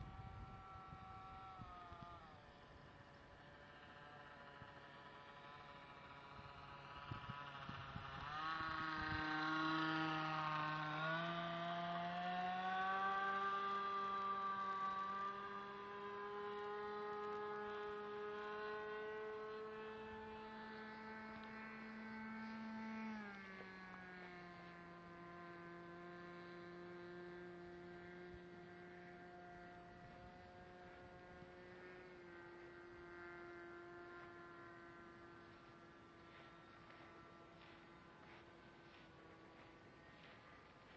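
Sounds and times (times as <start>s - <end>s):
model airplane engine droning: 0.0s - 40.9s.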